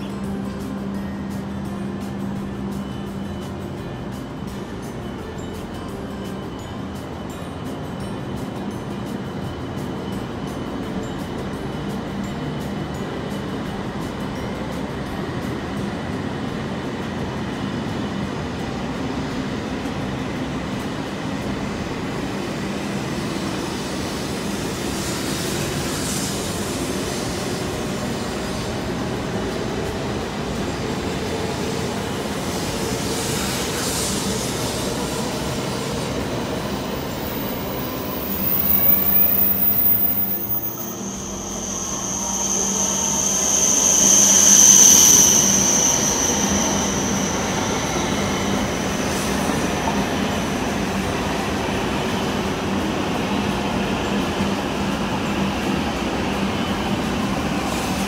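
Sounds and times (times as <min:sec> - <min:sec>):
high-pitched squeal: 0:00.0 - 0:58.0
train rumbling and humming: 0:00.0 - 0:58.0.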